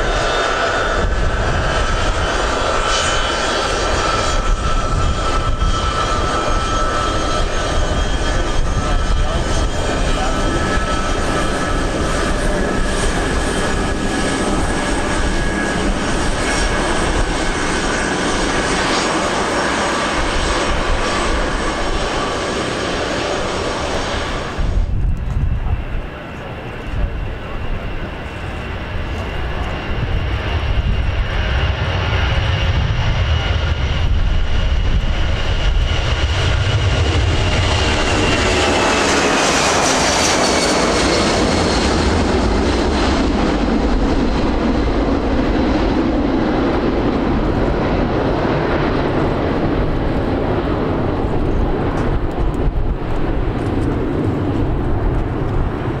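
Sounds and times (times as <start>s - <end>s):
jet aircraft passing: 0.0s - 56.0s.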